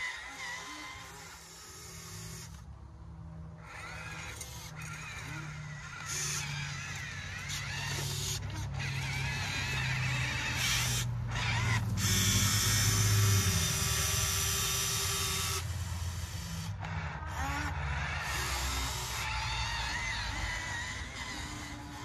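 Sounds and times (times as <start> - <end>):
small electric motors running: 0.0 - 22.0.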